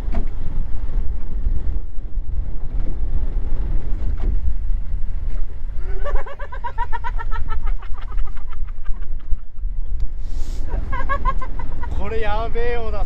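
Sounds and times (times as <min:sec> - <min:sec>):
fishing boat engine rumble: 0:00.0 - 0:13.0
wind on microphone: 0:00.0 - 0:13.0.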